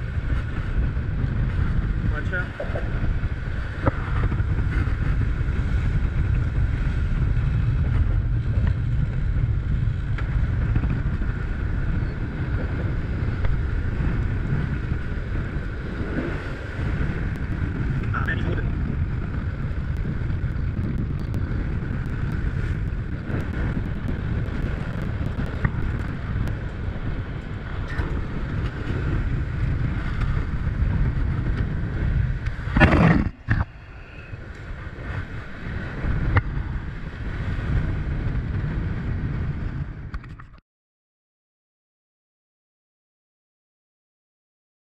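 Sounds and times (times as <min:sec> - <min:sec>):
surf: 0:00.0 - 0:40.5
strong wind buffeting microphone: 0:00.0 - 0:40.6.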